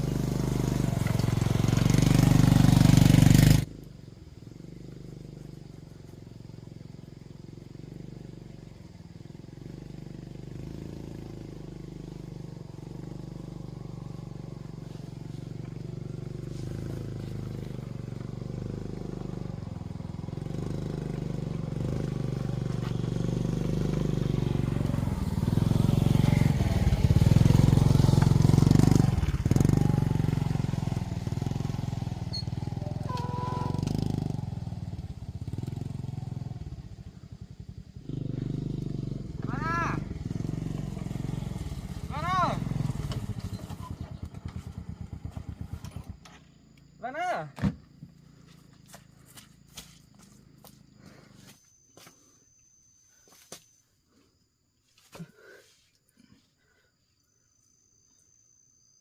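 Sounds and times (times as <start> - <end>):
motorbike engine passing: 0.0 - 49.4.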